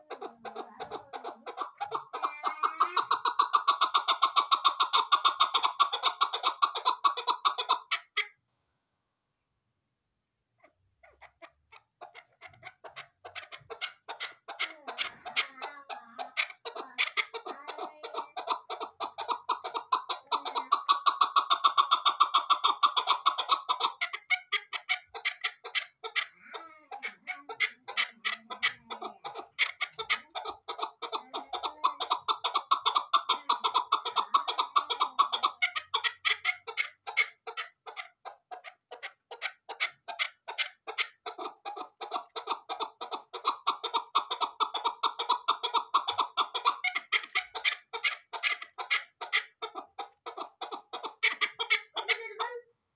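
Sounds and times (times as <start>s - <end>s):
partridge calling: 0.0s - 8.4s, 10.6s - 52.3s.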